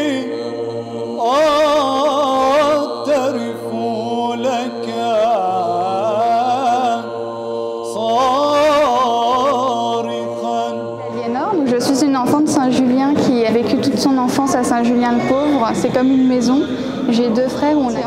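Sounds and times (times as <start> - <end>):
voices singing chant: 0.0 - 18.0.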